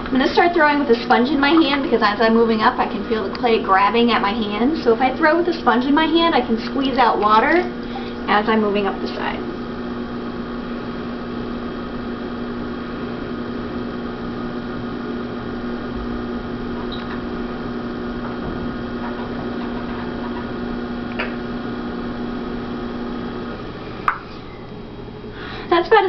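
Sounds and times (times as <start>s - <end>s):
pottery wheel motor humming: 0.0s - 26.0s.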